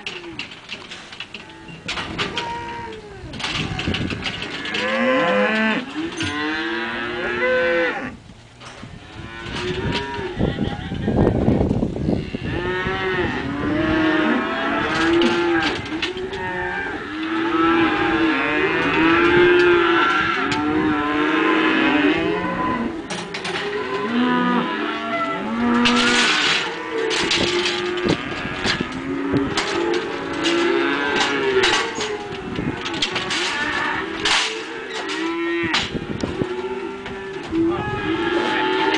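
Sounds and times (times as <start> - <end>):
cattle mooing: 1.3 - 8.2, 12.1 - 38.9.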